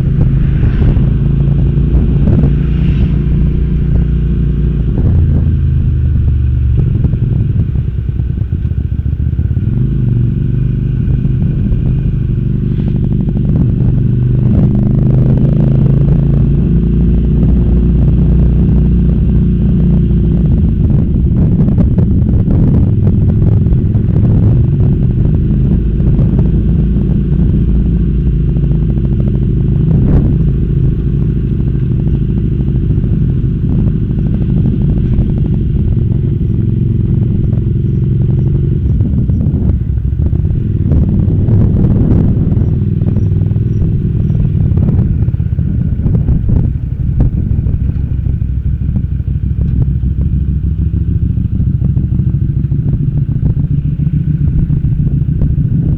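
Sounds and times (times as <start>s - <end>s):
motorcycle engine revving and idling: 0.0s - 55.9s.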